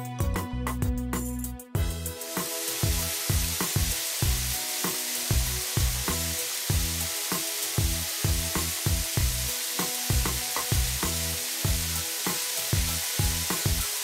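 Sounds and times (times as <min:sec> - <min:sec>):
background music with bass beat: 0:00.0 - 0:14.0
water spraying from nozzles: 0:01.8 - 0:14.0.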